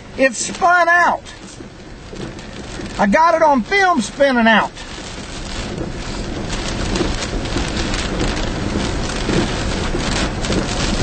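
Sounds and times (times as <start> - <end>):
heavy rain beating down: 0.0 - 11.0.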